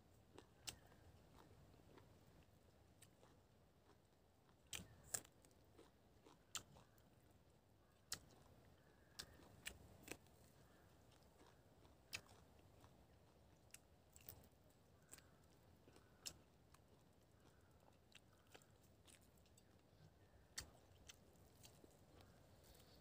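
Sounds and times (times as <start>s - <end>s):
crunchy bites and chewing: 0.3s - 23.0s.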